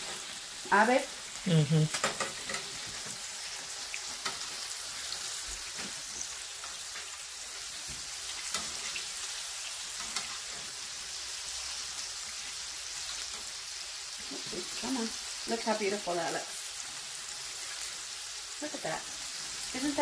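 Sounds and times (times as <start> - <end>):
meat patties sizzling in a pan: 0.0 - 20.0.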